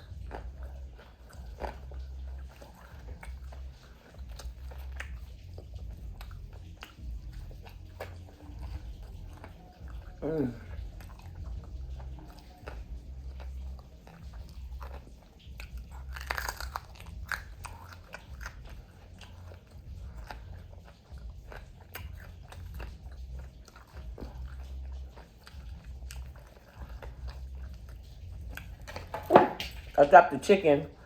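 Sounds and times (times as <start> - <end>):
person chewing crunchy fried chicken: 0.0 - 30.1.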